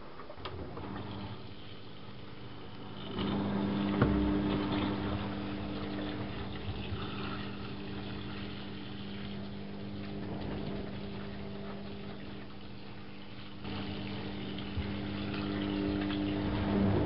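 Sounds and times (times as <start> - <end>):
washing machine hum: 0.0 - 17.0
water sloshing in drum: 3.3 - 17.0.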